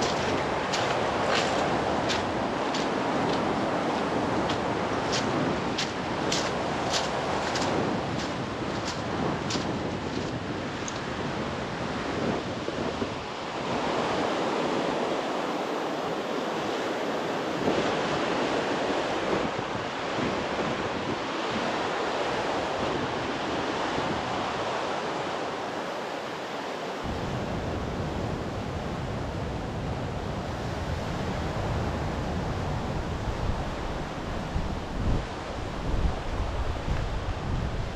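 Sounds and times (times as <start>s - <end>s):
wind rumble on microphone: 0.0s - 25.9s, 27.0s - 37.9s
sea surf washing on shore: 0.0s - 37.9s
wind: 0.0s - 37.9s.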